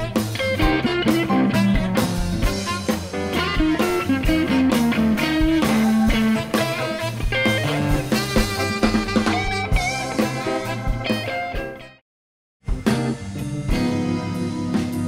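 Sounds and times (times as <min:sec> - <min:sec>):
bass guitar: 0:00.0 - 0:12.0, 0:12.6 - 0:15.0
drums: 0:00.0 - 0:12.0, 0:12.6 - 0:15.0
electric guitar lines: 0:00.0 - 0:12.0, 0:12.7 - 0:15.0.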